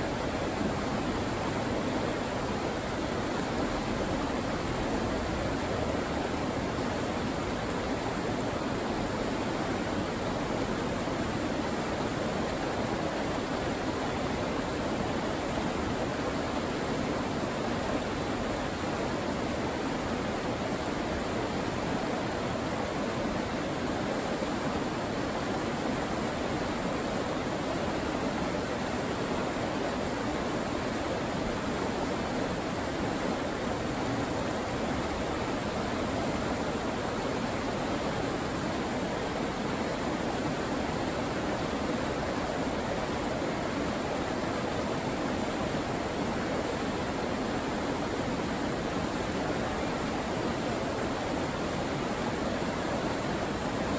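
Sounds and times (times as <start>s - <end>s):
river rapids rushing over rocks: 0.0s - 53.9s.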